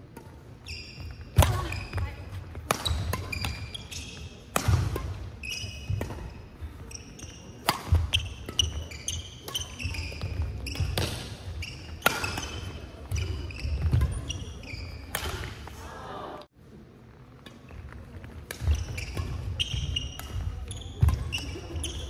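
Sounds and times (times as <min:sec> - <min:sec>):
court shoes squeaking: 0:00.0 - 0:15.8, 0:17.0 - 0:22.0
racket hitting shuttlecock: 0:00.1 - 0:00.4, 0:01.3 - 0:15.7, 0:18.4 - 0:22.0.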